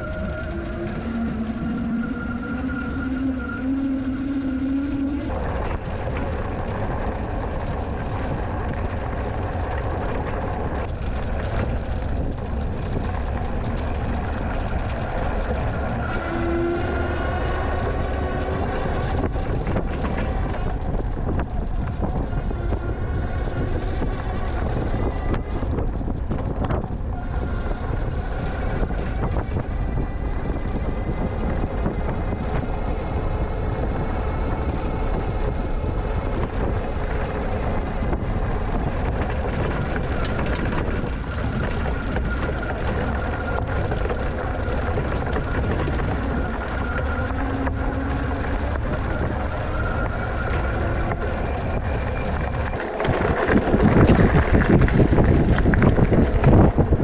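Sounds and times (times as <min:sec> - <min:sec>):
bike tyre noise: 0:00.0 - 0:57.0
faint steady whine: 0:00.0 - 0:57.0
wind rushing over microphone: 0:00.0 - 0:57.0.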